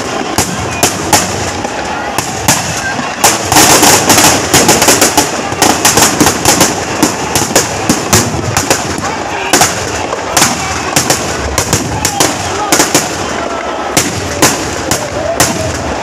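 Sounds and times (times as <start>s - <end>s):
firecrackers cracking and banging: 0.0s - 16.0s.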